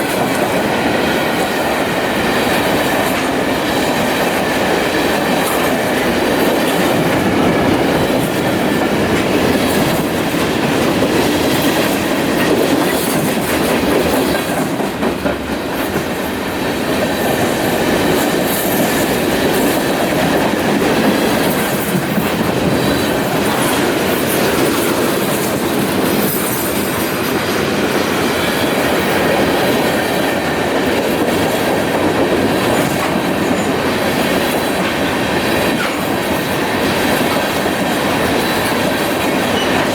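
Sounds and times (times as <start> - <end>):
freight train wheels rumbling on rail: 0.0 - 39.9.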